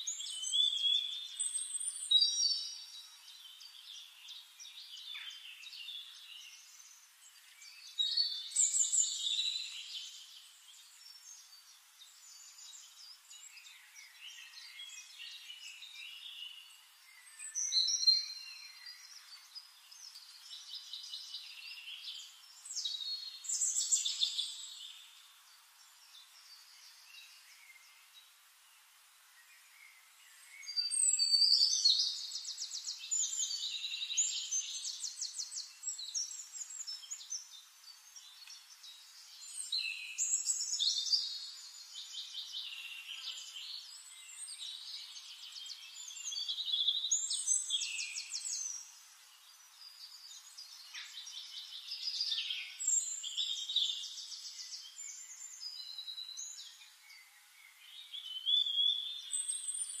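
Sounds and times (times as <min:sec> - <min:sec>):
songbird trills and whistles: 0:00.0 - 0:25.3, 0:29.4 - 1:00.0.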